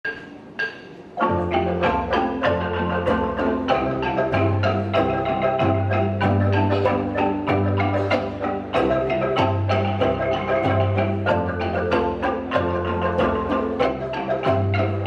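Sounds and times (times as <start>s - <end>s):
wooden xylophone ensemble playing: 0.0s - 15.0s.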